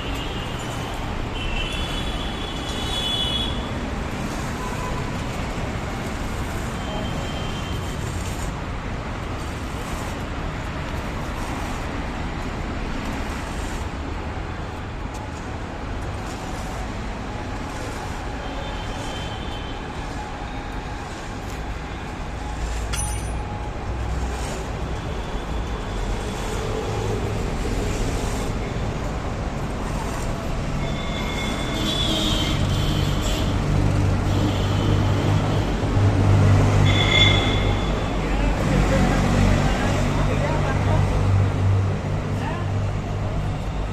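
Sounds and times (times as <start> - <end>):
road traffic rumble: 0.0 - 43.9.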